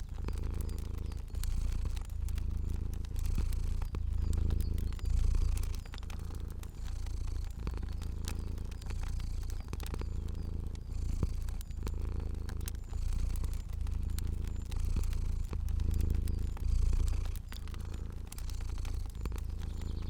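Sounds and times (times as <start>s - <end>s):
cat purring: 0.0s - 20.0s
fire crackling: 0.0s - 20.0s.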